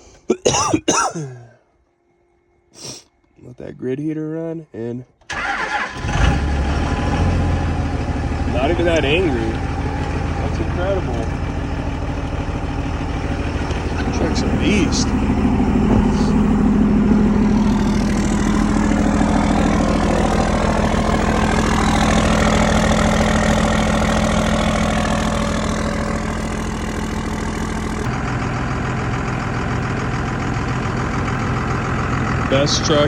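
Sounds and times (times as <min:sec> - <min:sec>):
diesel engine idling: 0:05.3 - 0:33.0.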